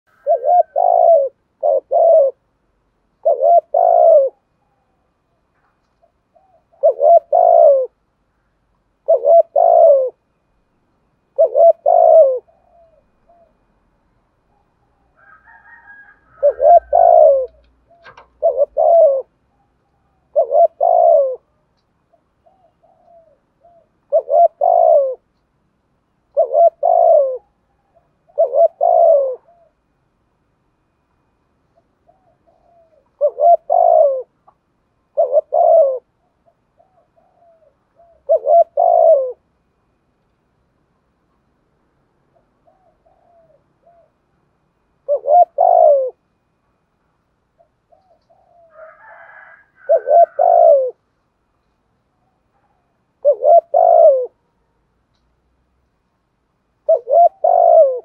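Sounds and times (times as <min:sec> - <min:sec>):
dove cooing: 0:00.0 - 0:10.5, 0:11.2 - 0:25.3, 0:26.2 - 0:29.9, 0:31.8 - 0:40.0, 0:42.3 - 0:44.3, 0:45.0 - 0:46.3, 0:47.5 - 0:51.1, 0:52.1 - 0:54.7, 0:56.8 - 0:58.0.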